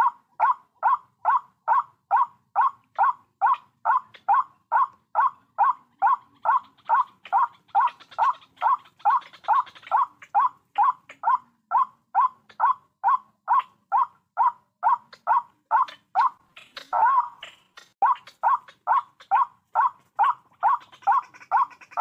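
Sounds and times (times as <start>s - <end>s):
bird calling kwak: 0.0s - 22.0s.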